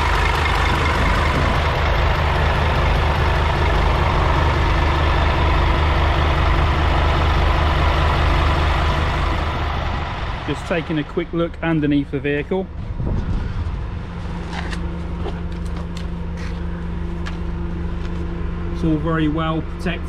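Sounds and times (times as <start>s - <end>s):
diesel bus engine idling: 0.0s - 20.0s.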